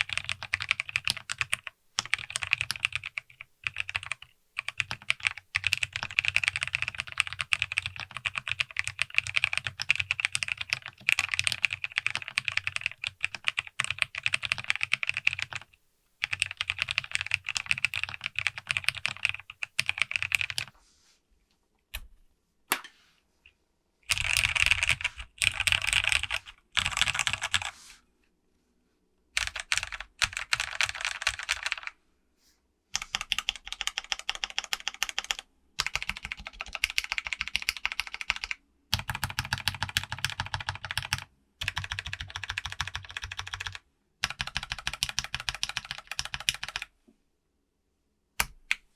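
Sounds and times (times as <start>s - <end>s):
mechanical keyboard typing: 0.0s - 20.7s, 24.1s - 27.7s, 29.4s - 31.9s, 33.0s - 46.9s.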